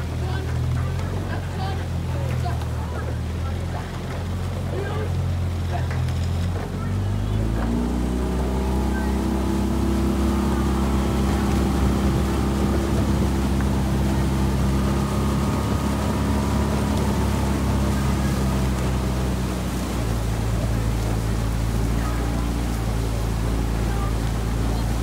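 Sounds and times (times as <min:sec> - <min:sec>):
motorboat engine running: 0:00.0 - 0:25.0
wind and water rumble: 0:00.0 - 0:25.0.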